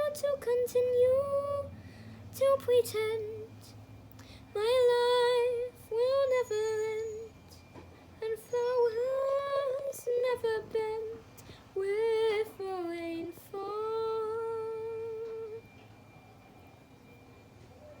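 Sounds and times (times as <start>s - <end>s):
woman singing unaccompanied: 0.0s - 3.8s, 4.5s - 15.7s.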